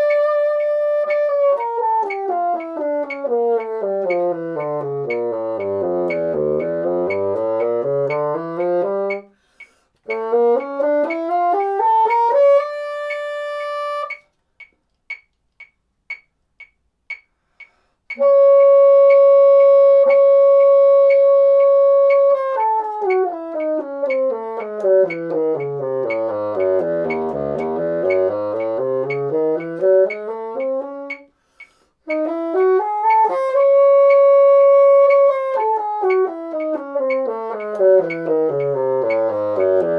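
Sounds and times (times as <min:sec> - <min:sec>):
bassoon playing scales: 0:00.0 - 0:14.3, 0:18.1 - 0:39.9
metronome ticking: 0:00.0 - 0:39.9.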